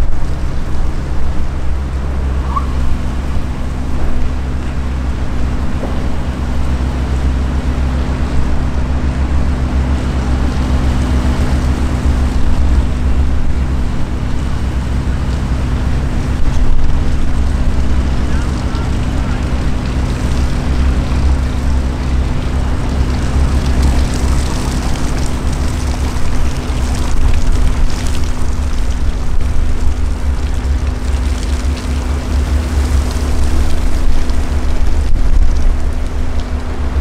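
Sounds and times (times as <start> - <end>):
boat diesel engine droning: 0.0 - 37.0.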